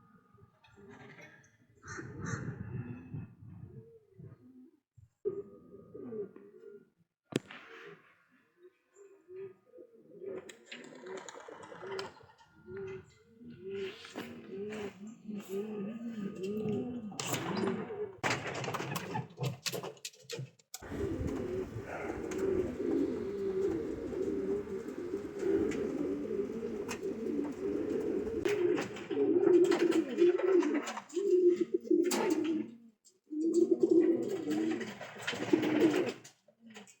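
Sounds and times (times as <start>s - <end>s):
pigeons cooing: 0.7s - 6.9s, 9.1s - 18.2s, 20.8s - 36.2s.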